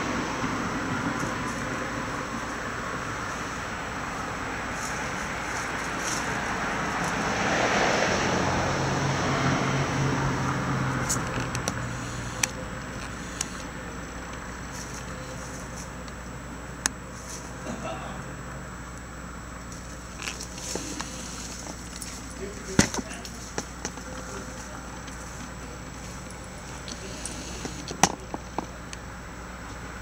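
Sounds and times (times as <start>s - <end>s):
road vehicle passing: 0.0s - 28.0s.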